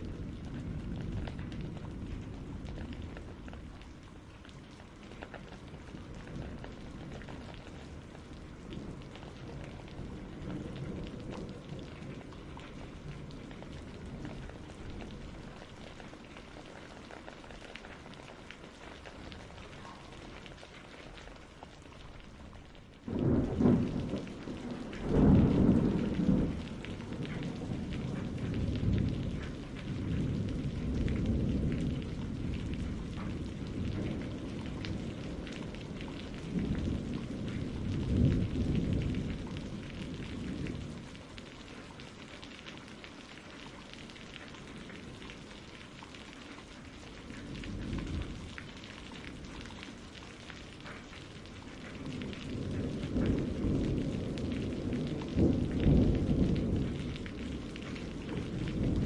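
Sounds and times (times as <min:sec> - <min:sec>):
thunder rumbling: 0:00.0 - 0:42.2, 0:42.8 - 0:59.0
steady rain: 0:00.0 - 0:59.0.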